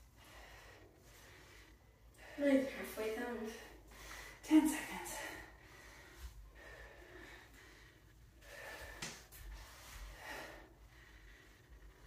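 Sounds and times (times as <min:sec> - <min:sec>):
person breathing heavily: 0:00.1 - 0:02.8, 0:03.4 - 0:12.0.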